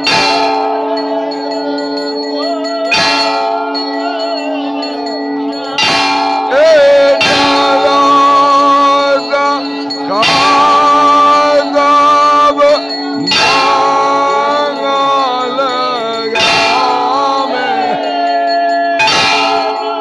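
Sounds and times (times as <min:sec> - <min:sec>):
temple bells ringing: 0:00.0 - 0:20.0
voices singing: 0:00.0 - 0:20.0.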